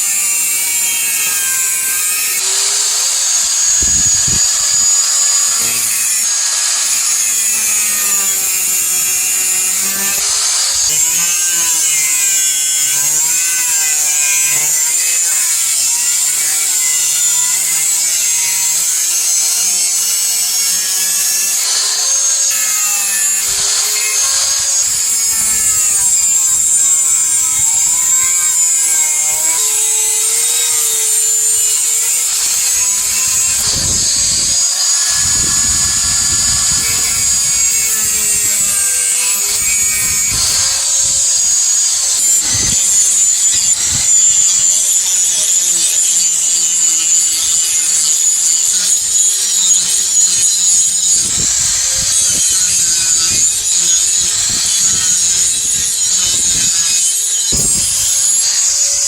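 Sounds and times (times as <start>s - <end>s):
power grinder grinding steel: 0.0s - 59.0s.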